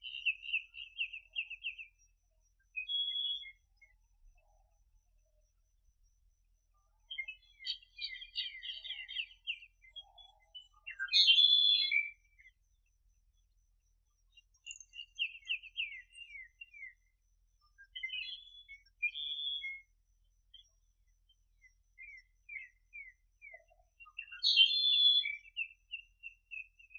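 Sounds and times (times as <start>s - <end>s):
small bird chirping: 0.0s - 26.9s.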